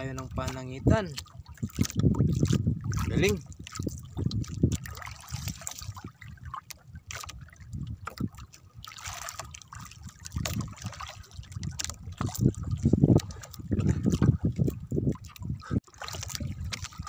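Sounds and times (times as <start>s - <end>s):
sea water splashing and sloshing: 0.0s - 17.0s.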